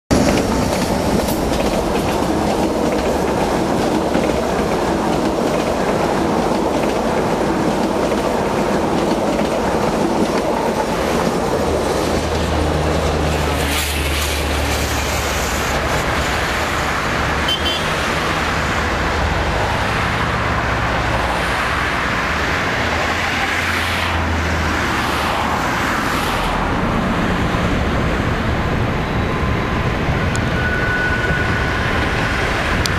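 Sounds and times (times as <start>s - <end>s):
passenger train passing: 0.1s - 32.9s.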